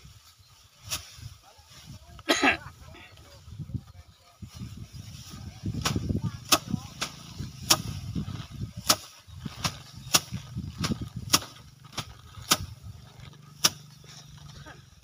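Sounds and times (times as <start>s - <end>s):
rice stalks whacking wooden racks: 0.1s - 1.9s, 4.4s - 15.0s.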